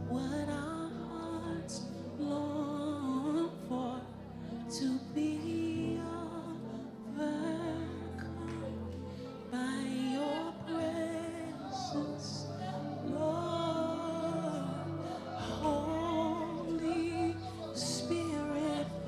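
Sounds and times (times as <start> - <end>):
woman singing with vibrato: 0.0 - 19.0.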